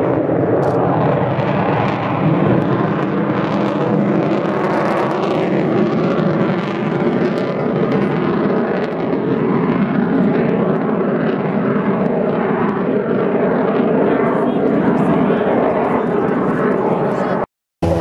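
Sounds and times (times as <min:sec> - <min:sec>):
jet bomber flying overhead: 0:00.0 - 0:18.0.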